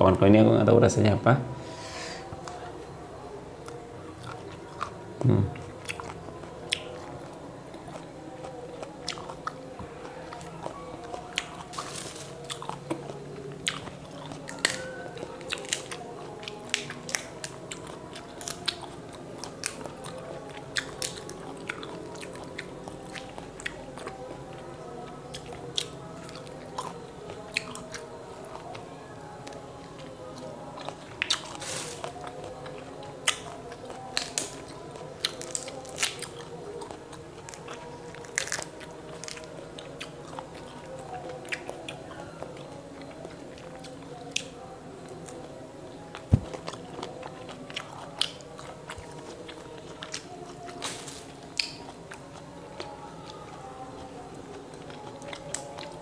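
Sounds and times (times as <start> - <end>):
chewing and mouth sounds: 3.5 - 56.0.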